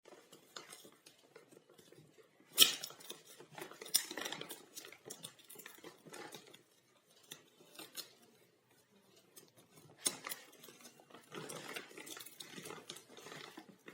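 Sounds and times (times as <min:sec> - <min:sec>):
cardboard and plastic rustling: 0:00.0 - 0:13.9
scraping on packaging: 0:00.1 - 0:13.9.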